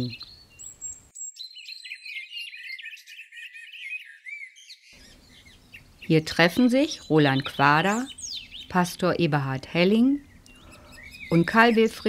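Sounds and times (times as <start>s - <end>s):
songbirds chirping and warbling: 0.0s - 12.0s.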